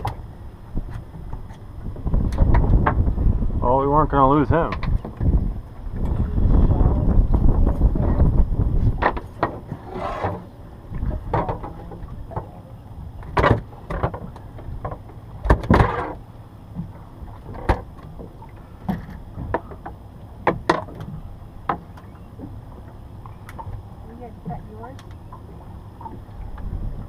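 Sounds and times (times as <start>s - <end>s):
knocks and taps on boat: 0.0s - 3.2s, 4.5s - 6.2s, 7.1s - 9.8s, 10.9s - 12.6s, 13.2s - 27.0s
steady low hum: 0.0s - 27.0s.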